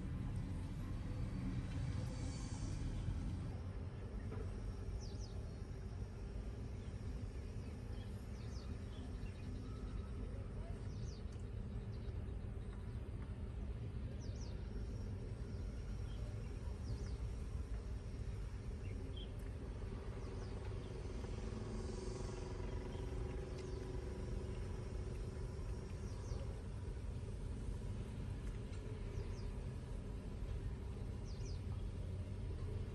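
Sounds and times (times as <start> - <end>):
low outdoor rumble: 0.0 - 32.9.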